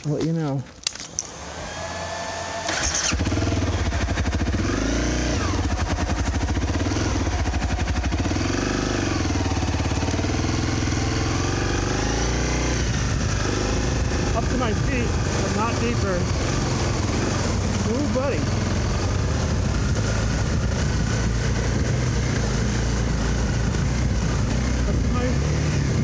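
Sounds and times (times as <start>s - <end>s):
motorcycle engine revving: 1.2s - 26.0s.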